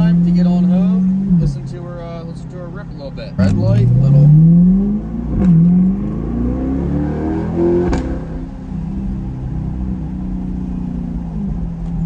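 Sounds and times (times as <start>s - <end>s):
exhaust crack on upshift: 0.0s - 12.0s
sports car accelerating: 0.0s - 12.0s.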